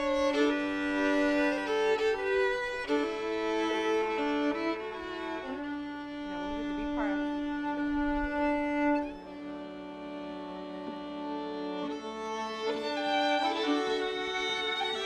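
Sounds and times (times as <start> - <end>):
fiddles playing slow tune: 0.0 - 15.0.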